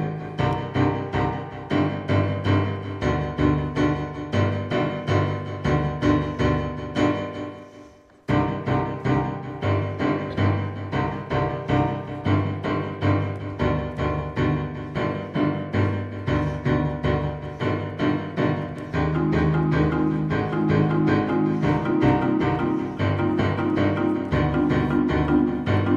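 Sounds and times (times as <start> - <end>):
piano music with repeated notes: 0.0 - 25.9.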